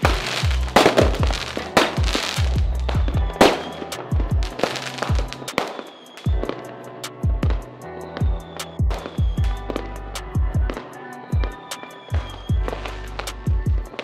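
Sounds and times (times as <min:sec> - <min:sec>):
fireworks bangs and crackles: 0:00.0 - 0:10.0, 0:10.6 - 0:14.0
low fireworks booms: 0:00.0 - 0:11.6
background music: 0:00.0 - 0:14.0.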